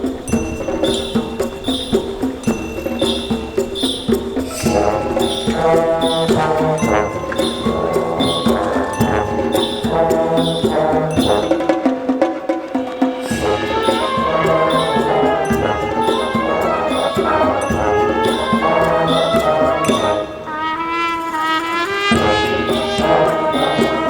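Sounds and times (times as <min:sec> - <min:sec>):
marching band playing: 0:00.0 - 0:24.0.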